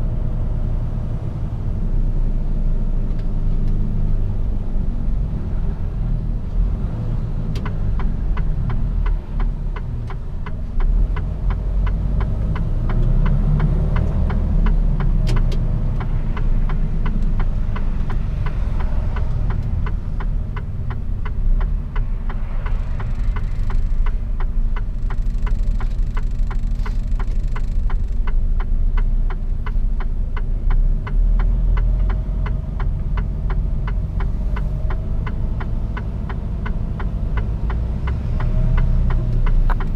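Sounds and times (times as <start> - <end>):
truck engine and road rumble: 0.0 - 39.9
turn indicator ticking: 2.4 - 39.9.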